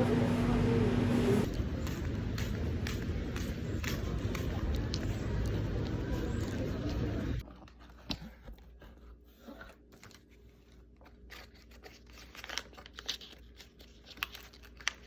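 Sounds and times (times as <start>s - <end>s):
soft rustling and crinkling: 1.4s - 15.0s.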